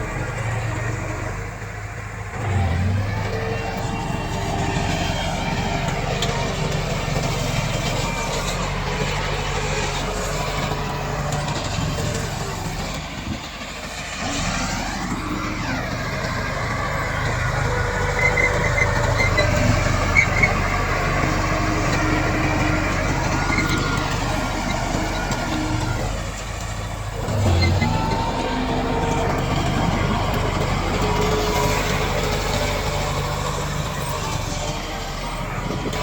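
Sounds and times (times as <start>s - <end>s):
bulldozer diesel engine running: 0.0s - 36.0s.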